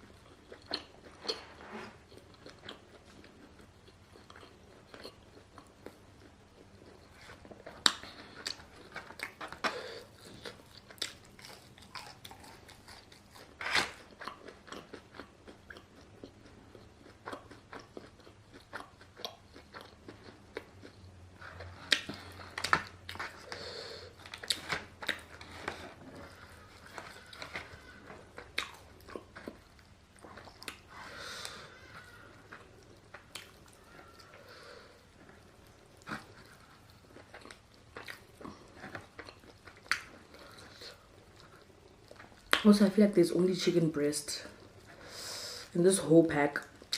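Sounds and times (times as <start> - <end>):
person chewing and crunching food: 0.0 - 42.7, 44.4 - 45.7, 46.6 - 46.9.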